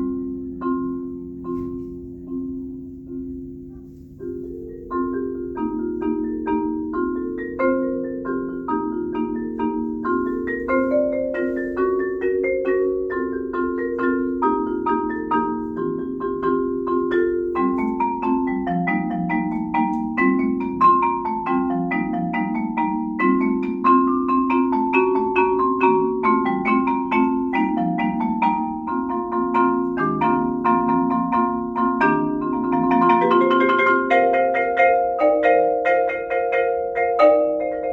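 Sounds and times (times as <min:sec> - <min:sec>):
solo marimba: 0:00.0 - 0:37.9.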